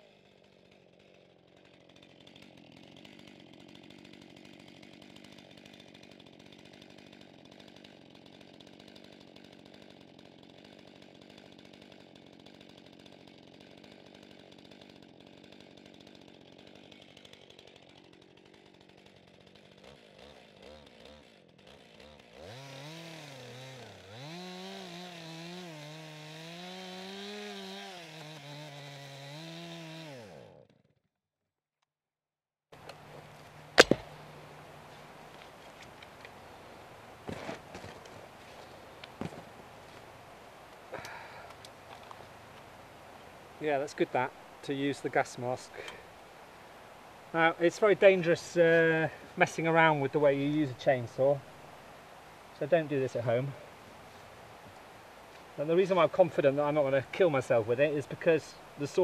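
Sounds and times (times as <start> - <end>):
chainsaw cutting into log: 0.0 - 31.0, 32.8 - 51.6, 52.5 - 59.0
chainsaw idling and revving: 0.0 - 31.1, 32.8 - 59.0.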